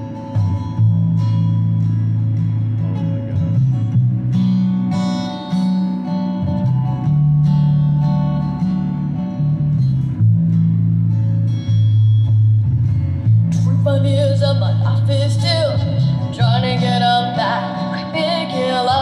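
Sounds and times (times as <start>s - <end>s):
acoustic guitar strumming: 0.0s - 19.0s
upright bass: 0.0s - 19.0s.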